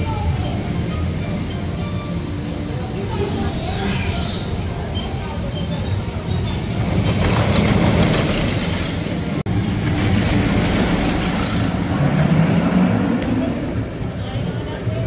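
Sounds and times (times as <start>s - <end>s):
roller coaster wheels rumbling: 0.0s - 15.0s.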